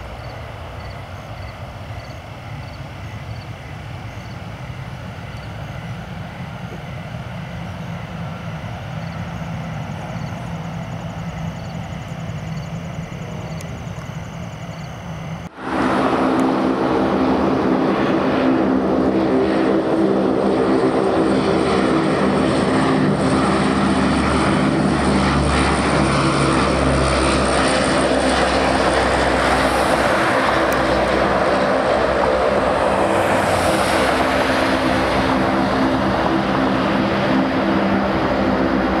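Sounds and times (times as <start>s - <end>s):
turboprop engines droning: 0.0s - 39.0s.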